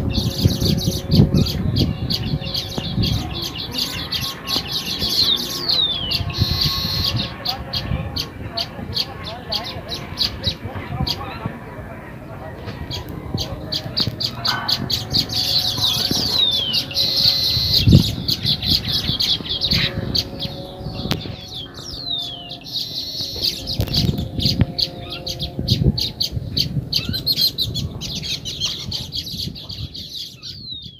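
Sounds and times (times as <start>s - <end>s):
weaver birds chattering: 0.0s - 30.9s.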